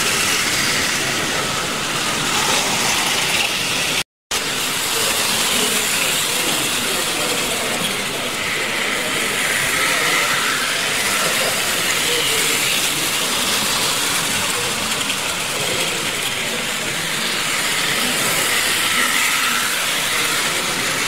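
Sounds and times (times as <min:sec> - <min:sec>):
model electric trains whirring: 0:00.0 - 0:21.0.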